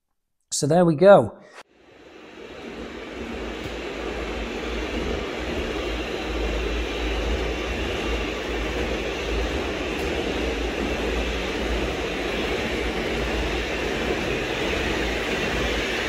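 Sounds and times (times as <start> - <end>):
model train running: 1.8 - 16.0.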